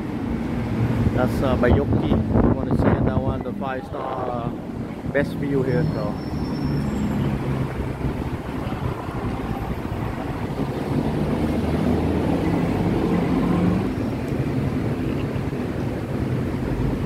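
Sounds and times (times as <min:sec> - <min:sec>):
busy city road traffic: 0:00.0 - 0:17.0.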